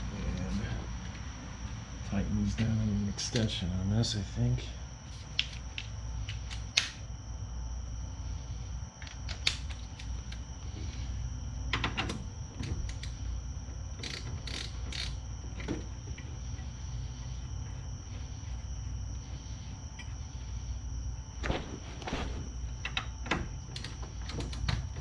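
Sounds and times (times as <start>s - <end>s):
faint high-pitched whine: 0.0s - 25.0s.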